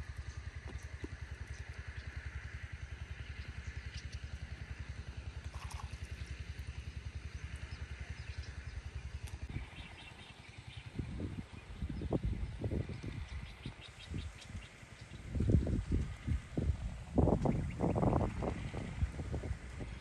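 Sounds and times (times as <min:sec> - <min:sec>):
small engine chugging: 0:00.0 - 0:20.0.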